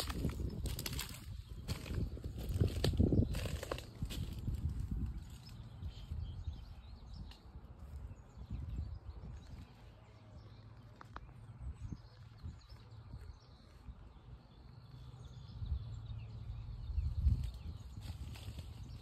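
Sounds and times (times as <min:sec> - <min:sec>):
low rumble on microphone: 0:00.0 - 0:19.0.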